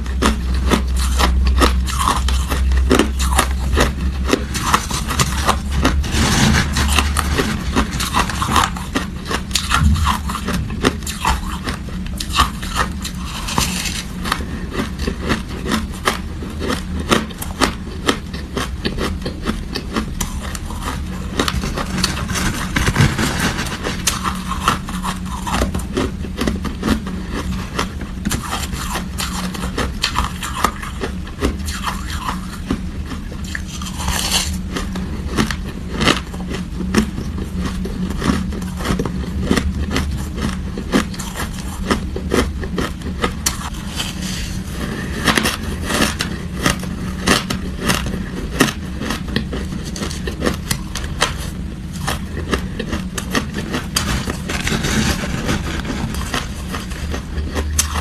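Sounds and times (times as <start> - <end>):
ice crunching being chewed: 0.0 - 58.0.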